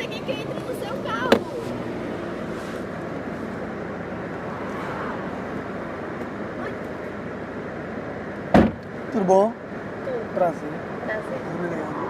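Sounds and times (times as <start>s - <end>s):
engine running: 0.0s - 12.0s
passing traffic: 0.0s - 12.0s.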